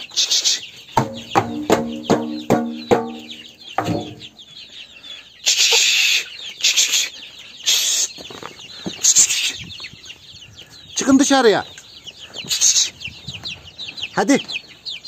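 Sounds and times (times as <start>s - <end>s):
chicken clucking loudly: 0.0s - 15.0s.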